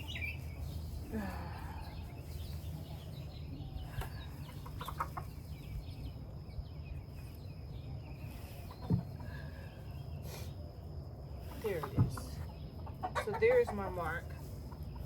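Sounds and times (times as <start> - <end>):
chicken chirping calls: 0.0 - 15.0
chickens clucking: 0.0 - 15.0.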